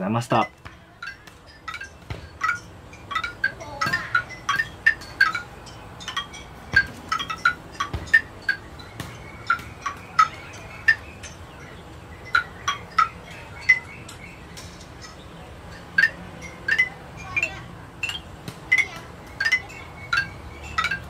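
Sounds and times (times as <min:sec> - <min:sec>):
chimes tinkling: 0:00.0 - 0:21.0.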